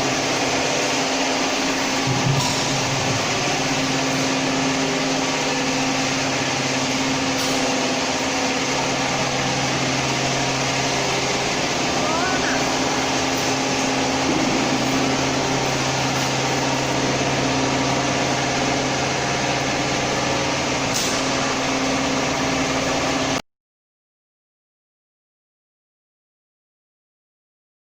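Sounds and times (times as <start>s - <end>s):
machine humming and hissing: 0.0s - 23.4s.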